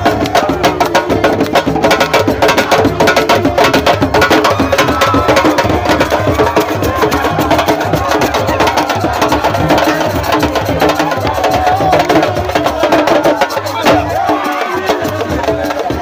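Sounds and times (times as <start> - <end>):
fast dense drumming: 0.0 - 16.0
voices chanting: 0.0 - 16.0.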